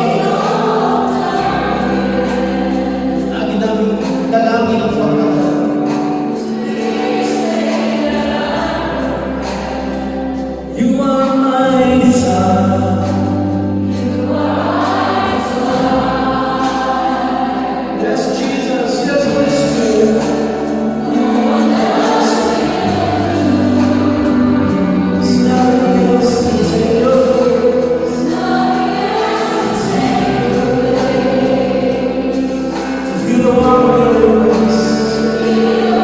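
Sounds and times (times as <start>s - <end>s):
choir singing: 0.0s - 36.0s
long held bass notes: 0.0s - 36.0s.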